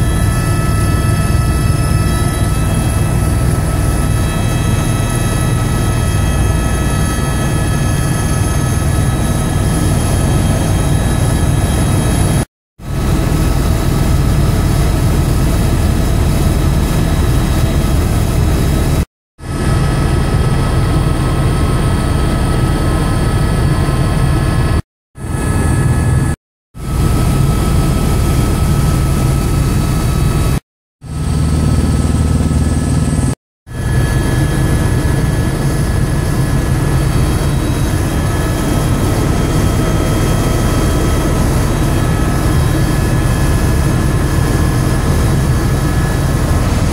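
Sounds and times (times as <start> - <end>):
helicopter engine and rotors drone: 0.0 - 46.9.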